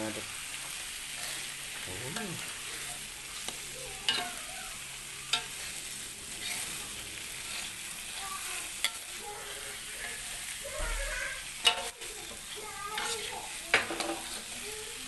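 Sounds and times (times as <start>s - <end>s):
food sizzling in a wok: 0.0s - 15.0s
spatula scraping through food: 0.5s - 15.0s.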